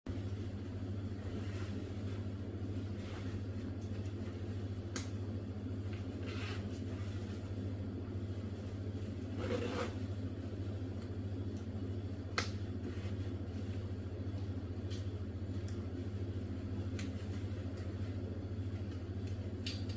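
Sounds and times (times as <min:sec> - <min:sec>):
steady low hum: 0:00.1 - 0:19.9.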